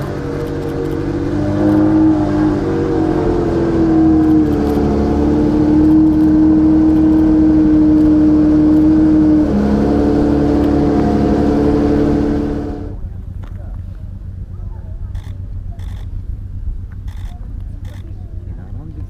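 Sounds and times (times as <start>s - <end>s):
engine running at high note: 0.0s - 19.0s.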